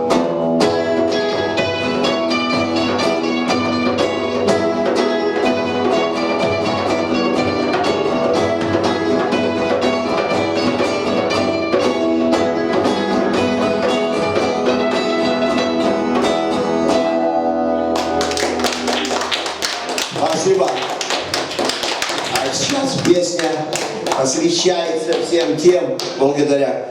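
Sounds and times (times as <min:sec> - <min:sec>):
punk band playing live: 0:00.0 - 0:24.5.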